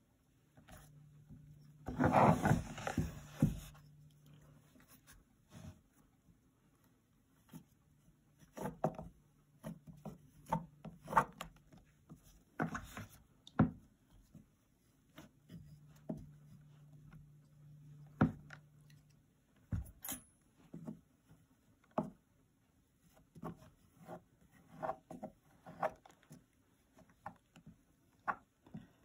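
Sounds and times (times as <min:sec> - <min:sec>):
faint low hum: 0:00.0 - 0:10.9, 0:11.6 - 0:29.0.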